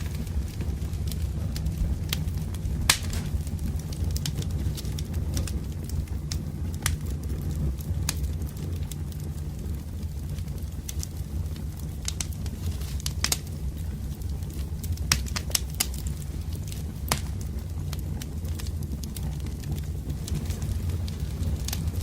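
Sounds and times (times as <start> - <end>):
fire pops and snaps: 0.0 - 22.0
steady low rumble: 0.0 - 22.0
wood fire crackling: 0.0 - 22.0.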